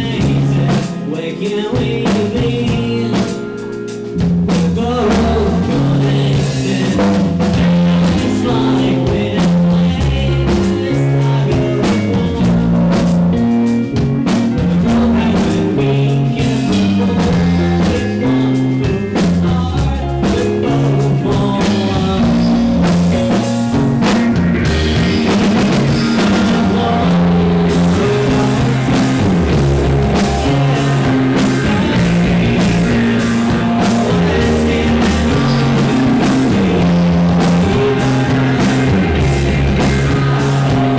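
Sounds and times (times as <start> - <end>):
male lead vocal singing: 0.0 - 3.6, 4.5 - 13.1, 14.5 - 23.5, 24.7 - 40.9
distorted electric guitar: 0.0 - 40.9
drum kit: 0.0 - 40.9
electric bass: 0.0 - 40.9.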